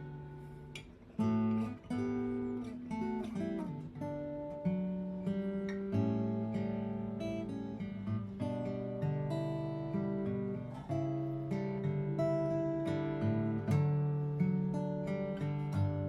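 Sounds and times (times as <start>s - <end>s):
guitar notes and chords: 0.0s - 16.0s.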